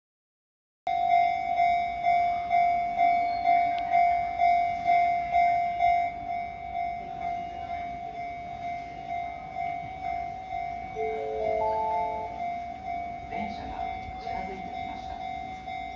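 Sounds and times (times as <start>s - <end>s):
level crossing alarm clanging: 0.9s - 15.9s.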